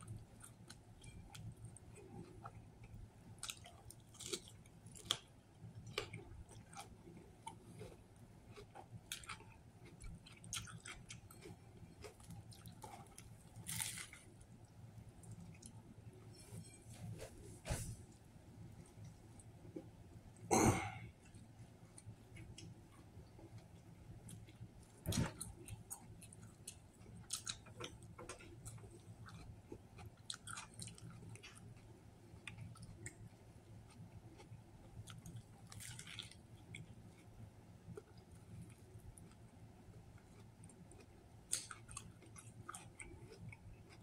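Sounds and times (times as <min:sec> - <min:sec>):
man chewing: 0:00.1 - 0:14.5, 0:22.0 - 0:33.2, 0:33.8 - 0:44.0.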